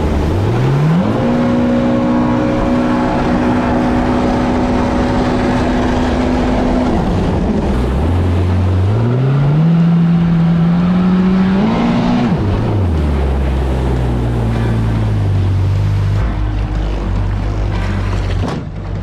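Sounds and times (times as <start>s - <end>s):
jet ski engine revving: 0.0s - 18.4s
rushing noise: 0.0s - 18.8s.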